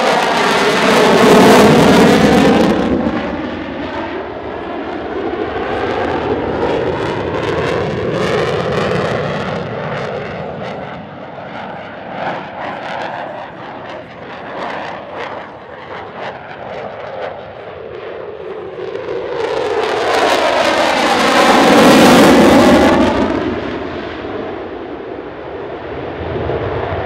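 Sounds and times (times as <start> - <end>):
jet afterburner crackling: 0.0 - 24.8
jet flying past: 0.0 - 27.0.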